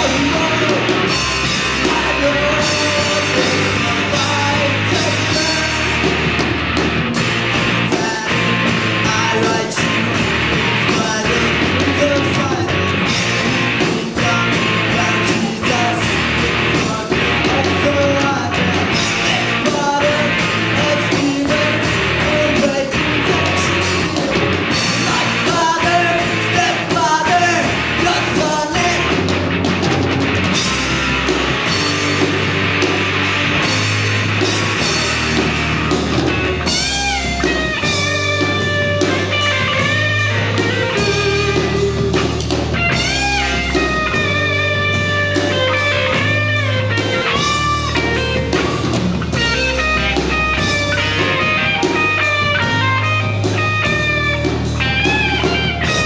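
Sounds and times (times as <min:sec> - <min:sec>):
bending sliding lead guitar line: 0:00.0 - 0:56.0
live rock band playing: 0:00.0 - 0:56.0.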